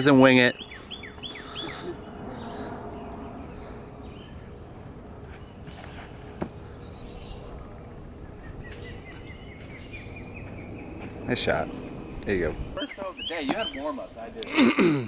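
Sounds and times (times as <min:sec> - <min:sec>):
birds: 0:00.0 - 0:15.0.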